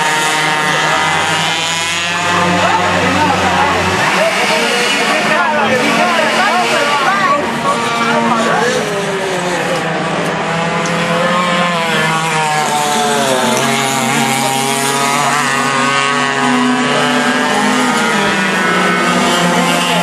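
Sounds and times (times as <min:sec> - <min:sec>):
racing kart engines: 0:00.0 - 0:20.0.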